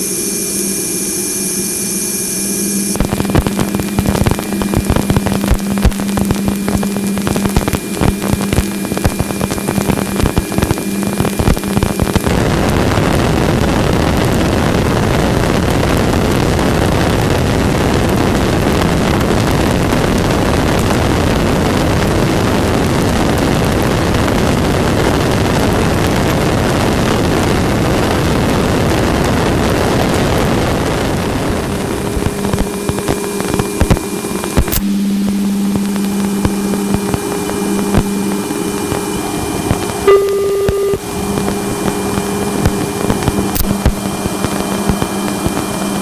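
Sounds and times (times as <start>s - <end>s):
dense rushing static: 0.0s - 46.0s
low steady hum: 0.0s - 46.0s.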